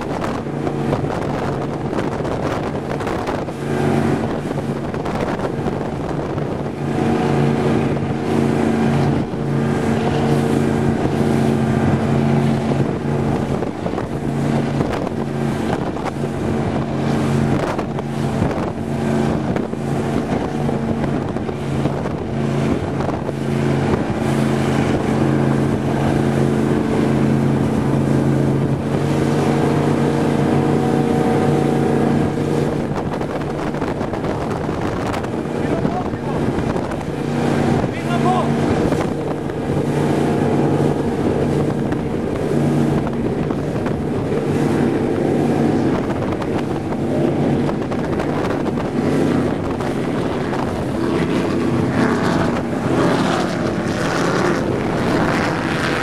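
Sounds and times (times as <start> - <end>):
boat engine running: 0.0 - 56.0
water rushing past hull: 0.0 - 56.0
wind buffeting microphone: 0.0 - 56.0.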